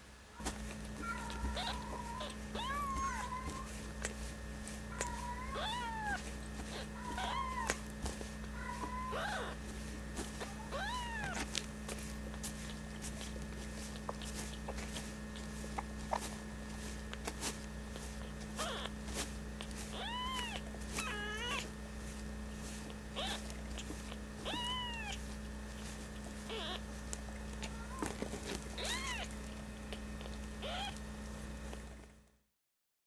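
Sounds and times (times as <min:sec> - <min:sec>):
kitten mewing: 0:00.4 - 0:11.7, 0:12.3 - 0:31.9.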